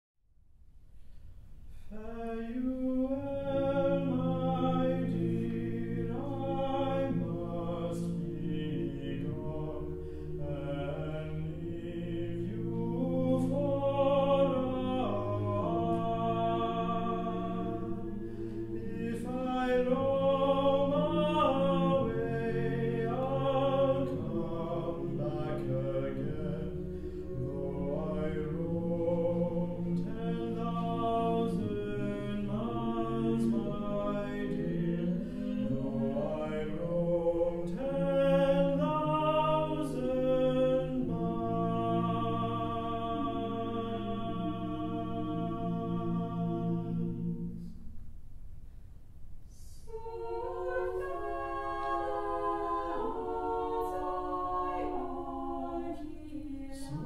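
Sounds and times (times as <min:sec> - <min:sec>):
mixed choir singing: 0:01.9 - 0:47.8, 0:49.8 - 0:57.0.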